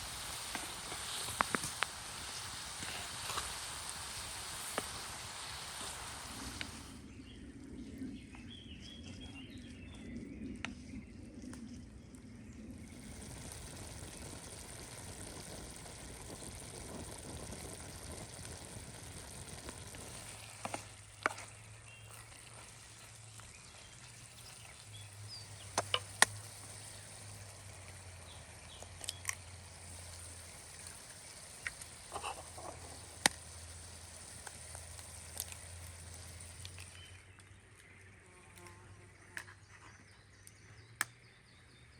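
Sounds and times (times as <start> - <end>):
fire pops and crackles: 0.0 - 7.1, 11.4 - 38.7
food sizzling over campfire: 0.0 - 7.1, 12.7 - 39.4.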